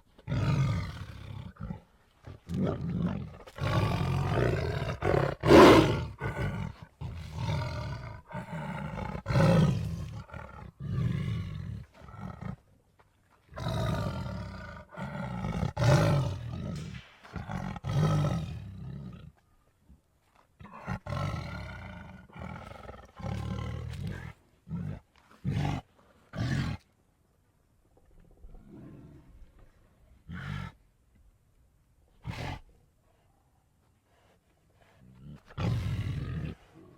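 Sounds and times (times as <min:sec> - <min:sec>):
big cat roars and snarls: 0:00.2 - 0:12.6, 0:13.5 - 0:19.4, 0:20.6 - 0:26.9, 0:28.3 - 0:30.8, 0:32.2 - 0:32.7, 0:34.8 - 0:36.9.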